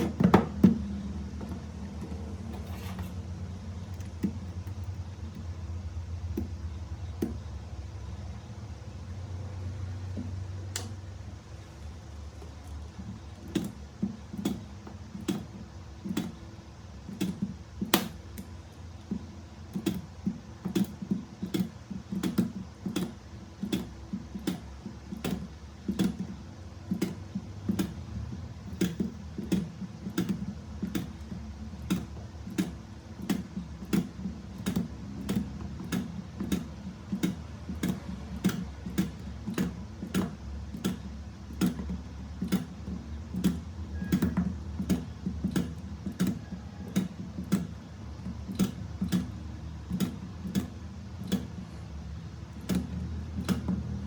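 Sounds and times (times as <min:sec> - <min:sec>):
spot welder clicks and thumps: 0:00.0 - 0:08.4, 0:09.9 - 0:54.0.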